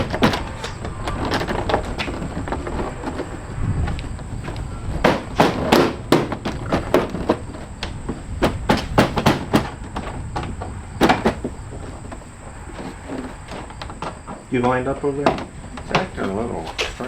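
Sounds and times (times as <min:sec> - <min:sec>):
sharp knocks and clanks: 0:00.0 - 0:17.0.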